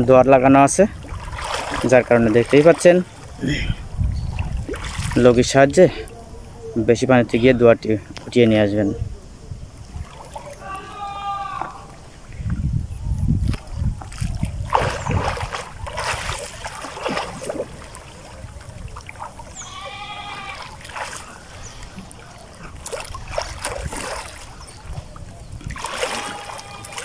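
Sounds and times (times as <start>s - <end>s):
water splashing from swimming: 0.0s - 6.2s, 9.8s - 12.4s, 13.4s - 27.0s.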